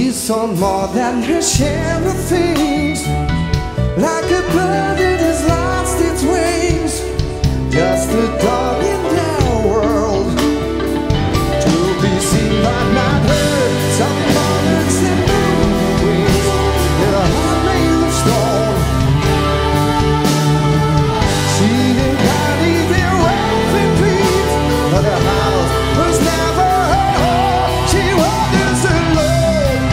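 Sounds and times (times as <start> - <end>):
man singing lead: 0.0 - 29.9
rock band playing live: 0.0 - 29.9.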